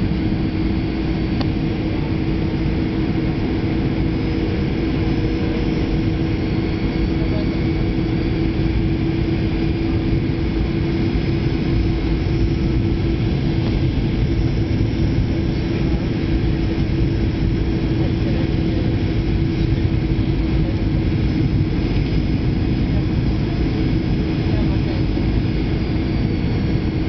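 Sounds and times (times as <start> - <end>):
airplane cabin engine roar: 0.0 - 27.0
steady low hum: 0.0 - 27.0.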